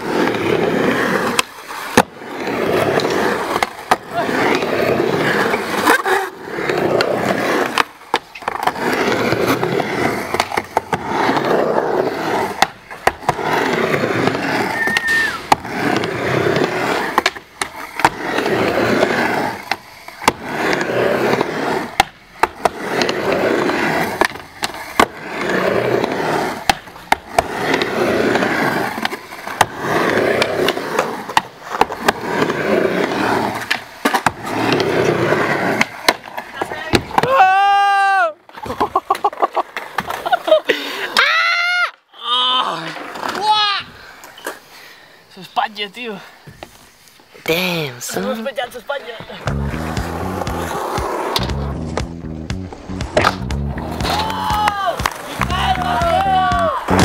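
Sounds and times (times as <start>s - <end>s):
skateboard clacks: 0.0s - 40.5s, 49.0s - 57.0s
skateboard wheels rolling: 0.0s - 57.0s.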